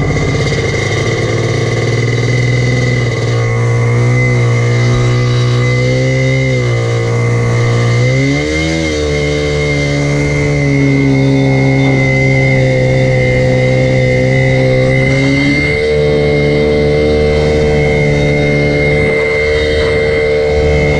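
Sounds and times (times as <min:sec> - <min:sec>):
high whine: 0:00.0 - 0:20.9
jet ski engine revving: 0:00.0 - 0:20.9.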